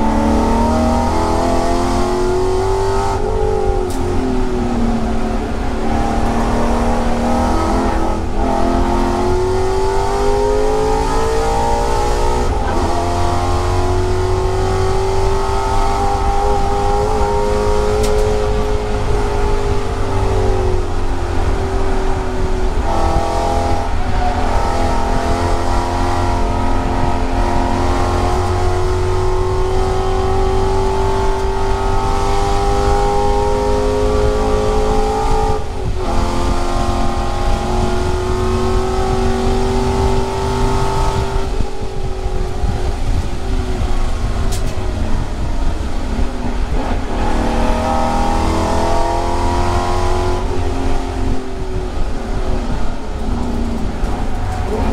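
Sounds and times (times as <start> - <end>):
race car engine pulling hard: 0.0 - 54.9.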